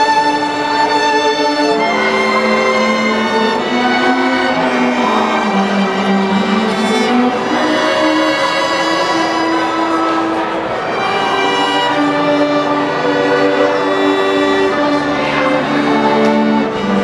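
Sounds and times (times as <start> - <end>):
string orchestra playing held chords: 0.0 - 17.0.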